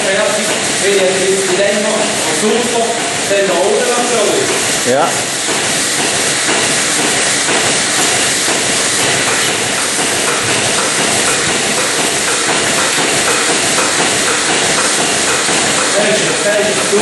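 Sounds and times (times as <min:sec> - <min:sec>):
milking machine hissing: 0:00.0 - 0:17.0.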